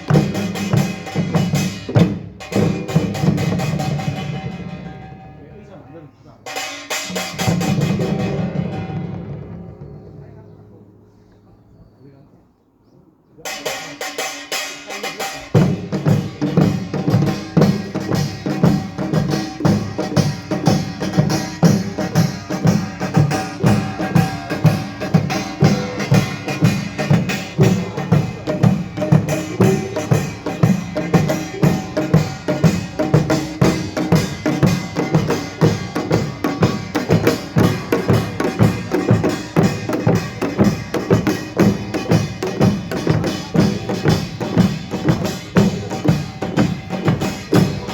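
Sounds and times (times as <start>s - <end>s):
deep drums: 0.0s - 5.5s, 6.5s - 11.4s, 15.0s - 47.9s
drum and gong strokes: 0.0s - 5.5s, 6.5s - 11.2s, 13.5s - 47.9s.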